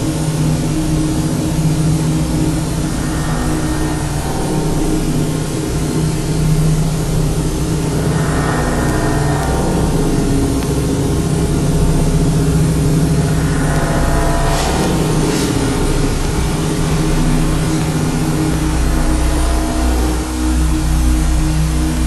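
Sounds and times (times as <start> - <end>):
loud low engine drone: 0.0 - 22.0.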